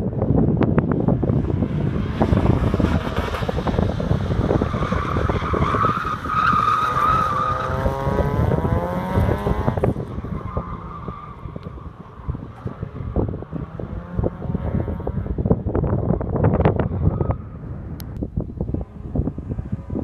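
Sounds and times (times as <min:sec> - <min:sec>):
wind buffeting microphone: 0:00.0 - 0:20.0
car engine accelerating: 0:00.4 - 0:18.0.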